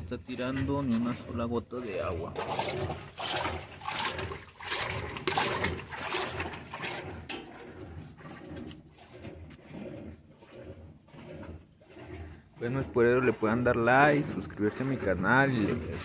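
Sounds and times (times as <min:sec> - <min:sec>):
washing machine water sloshing: 0:00.0 - 0:16.0.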